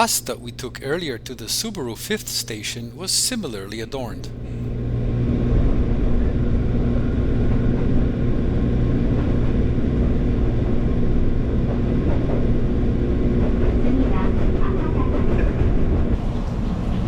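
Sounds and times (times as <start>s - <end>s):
electric train rumbling: 0.0s - 17.0s
faint even hum: 0.0s - 17.0s.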